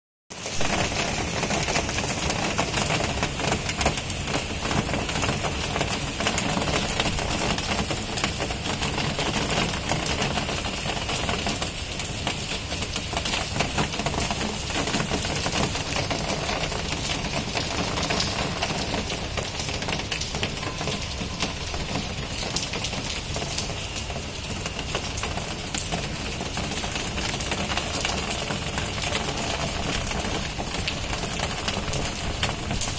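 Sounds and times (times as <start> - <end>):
heavy rain pouring: 0.3 - 32.9.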